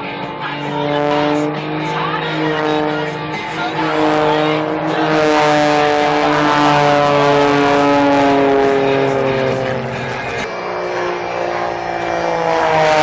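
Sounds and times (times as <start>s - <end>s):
aircraft engine passing by: 0.0s - 13.0s.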